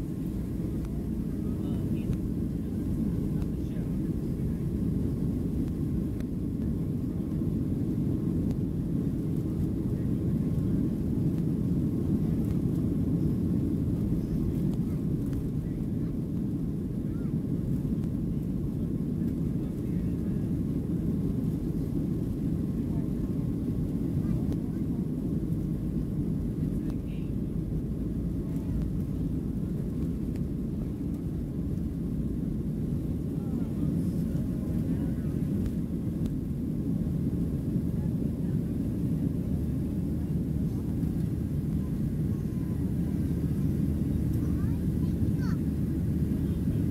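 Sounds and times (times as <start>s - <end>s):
aircraft cabin low rumble: 0.0s - 46.9s
airliner engines at low thrust: 0.0s - 46.9s.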